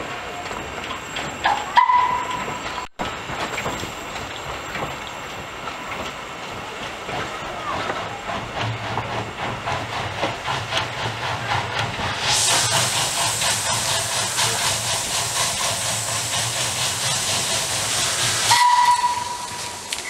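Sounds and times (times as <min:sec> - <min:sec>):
steam train rumble: 0:00.0 - 0:20.0
wheels clicking on track: 0:00.0 - 0:20.0.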